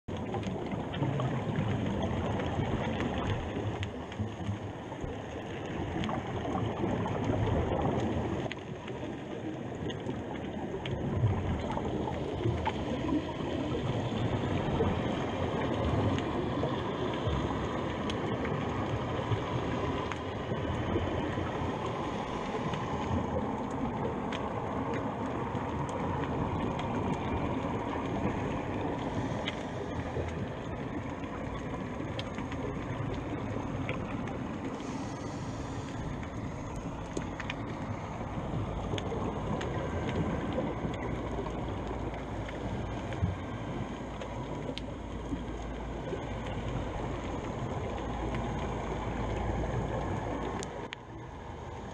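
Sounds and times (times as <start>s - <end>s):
faint clicks: 0.1s - 51.1s
muffled underwater noise: 0.1s - 51.9s.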